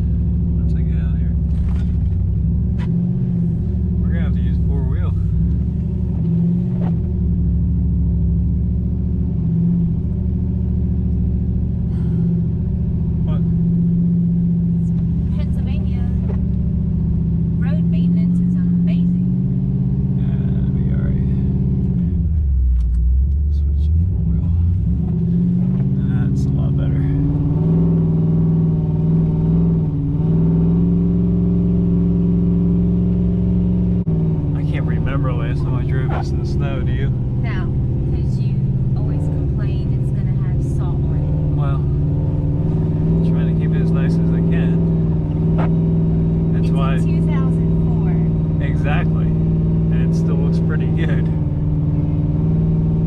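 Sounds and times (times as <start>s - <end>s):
truck engine running steadily: 0.0s - 53.0s.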